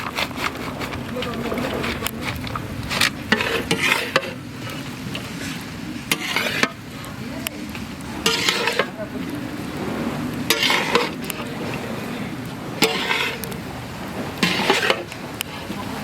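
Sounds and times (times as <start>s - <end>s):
metal utensil scraping wok: 0.0s - 9.4s, 10.3s - 16.0s
steady sizzle: 0.0s - 16.0s.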